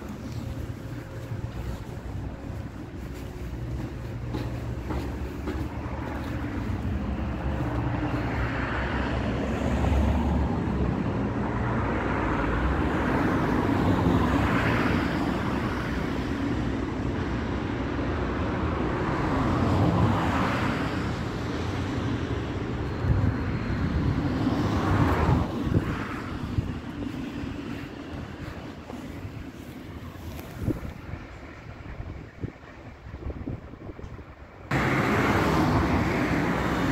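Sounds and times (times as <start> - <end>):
road traffic rumble: 0.0 - 36.9
vehicles passing: 0.0 - 36.9.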